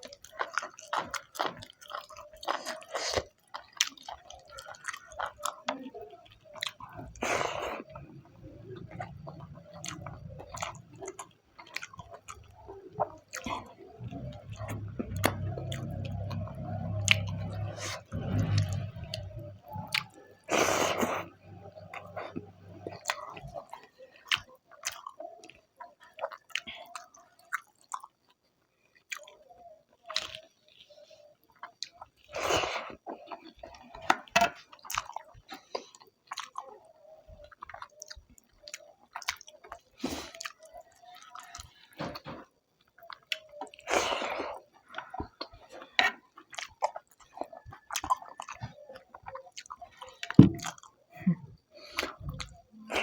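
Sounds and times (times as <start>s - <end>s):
close chewing and mouth sounds: 0.0s - 53.0s.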